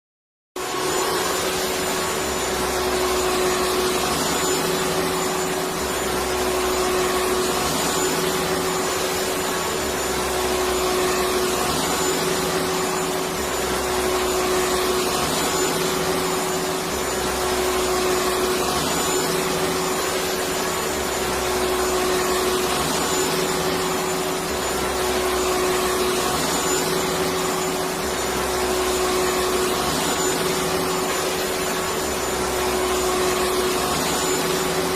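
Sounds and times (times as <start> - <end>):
vacuum cleaner running: 0.6 - 34.9.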